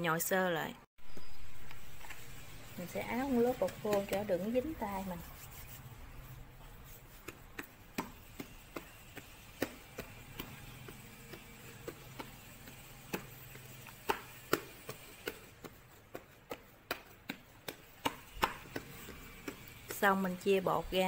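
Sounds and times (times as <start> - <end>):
hands patting bread dough: 3.1 - 21.0.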